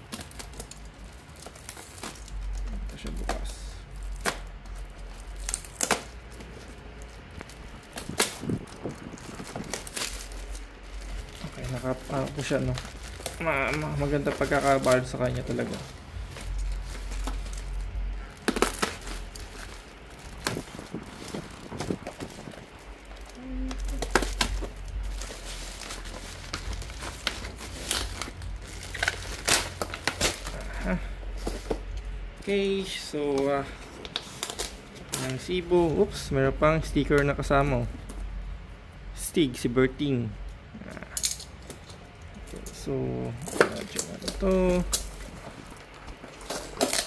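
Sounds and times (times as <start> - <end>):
plastic packaging crinkling: 0.0 - 38.4, 40.9 - 47.0.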